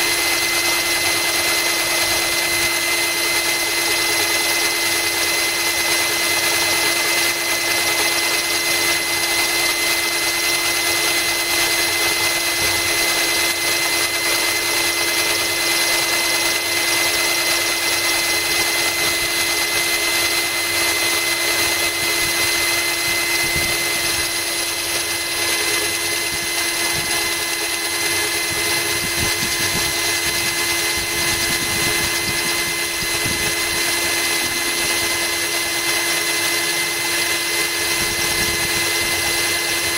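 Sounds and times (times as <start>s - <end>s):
cordless drill whining: 0.0s - 39.9s
drill bit grinding into glass: 0.0s - 39.9s.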